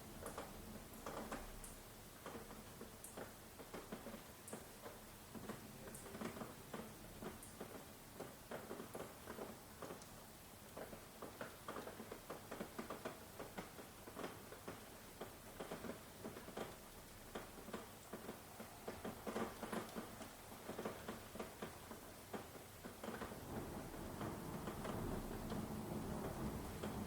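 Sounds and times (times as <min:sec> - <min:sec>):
rain drops pattering: 0:00.0 - 0:27.0.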